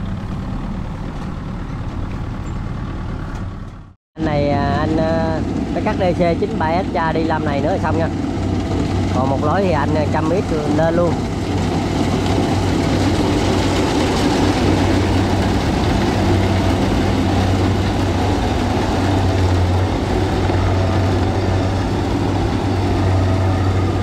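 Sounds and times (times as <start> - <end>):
combine harvester engine humming: 0.0 - 24.0.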